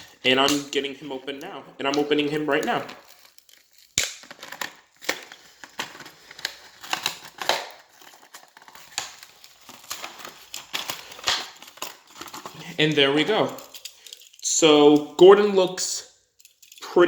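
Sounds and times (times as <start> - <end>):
cardboard and plastic crinkling: 0.0 - 14.5.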